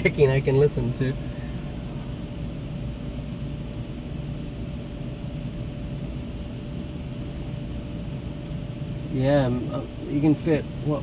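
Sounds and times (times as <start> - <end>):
faint steady hum: 0.0 - 11.0
minivan idling rumble: 0.0 - 11.0.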